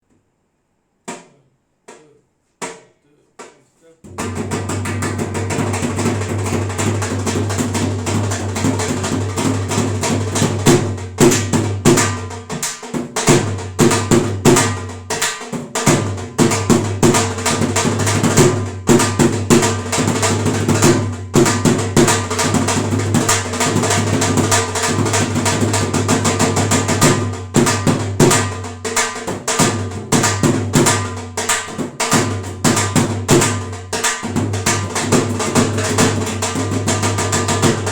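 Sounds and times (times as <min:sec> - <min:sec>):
dhol drum strokes: 0:03.4 - 0:37.9.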